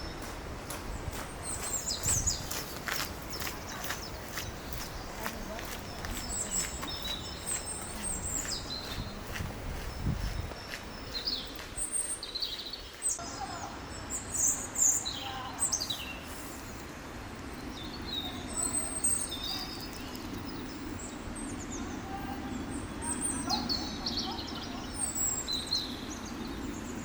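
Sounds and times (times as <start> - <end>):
songbirds chirping and trilling: 0.0 - 27.0.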